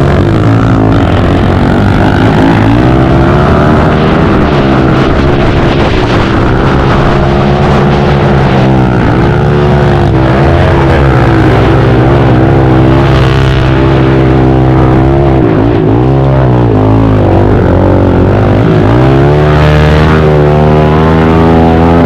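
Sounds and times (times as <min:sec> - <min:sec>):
pit bike engines running: 0:00.0 - 0:22.0.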